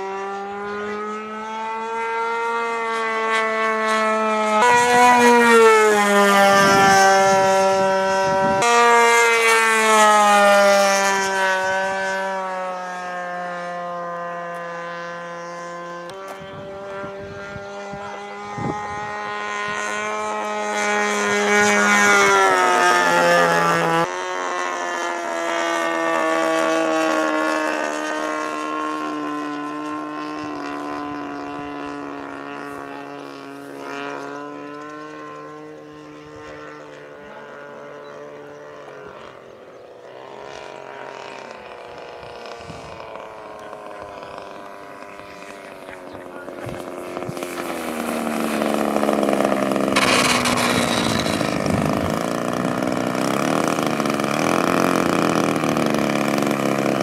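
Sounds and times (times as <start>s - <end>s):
model plane engine passing: 0.0s - 57.0s.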